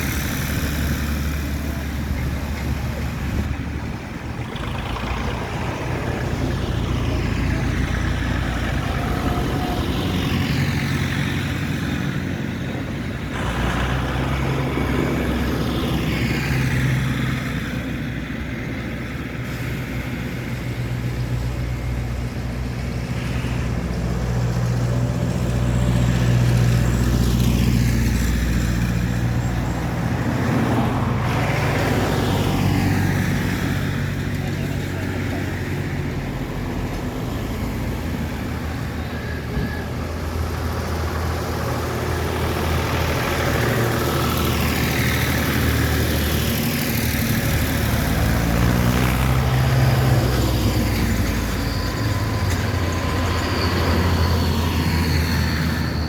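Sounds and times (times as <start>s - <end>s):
tractors driving past: 0.0s - 56.0s.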